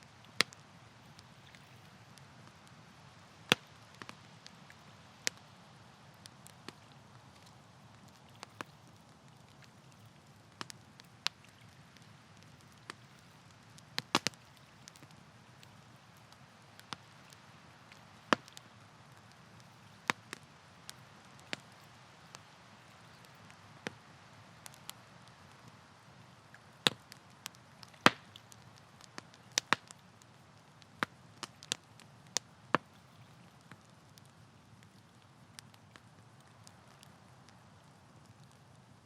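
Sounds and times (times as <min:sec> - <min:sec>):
campfire wood crackling: 0:00.0 - 0:39.0.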